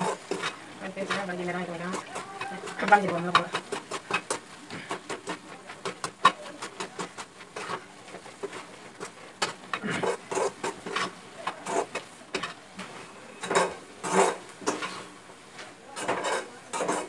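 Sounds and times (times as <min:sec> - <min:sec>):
metal spoon scraping a steel pan: 0:00.0 - 0:12.6, 0:13.4 - 0:15.1, 0:16.0 - 0:17.0.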